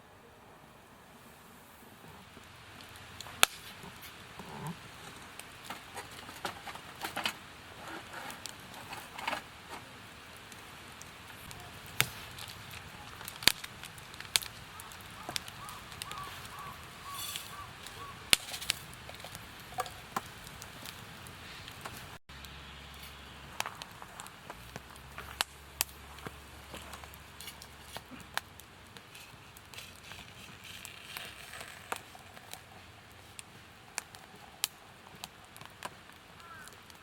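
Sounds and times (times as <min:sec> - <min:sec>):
campfire crackling and popping: 0:01.7 - 0:37.0.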